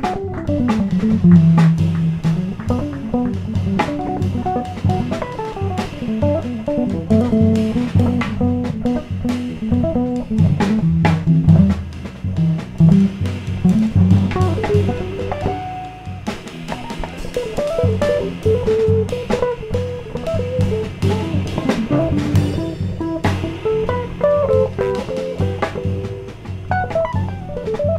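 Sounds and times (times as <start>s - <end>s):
drum kit playing: 0.0s - 27.9s
electric guitar melody: 0.0s - 27.9s
walking bass line: 0.0s - 27.9s.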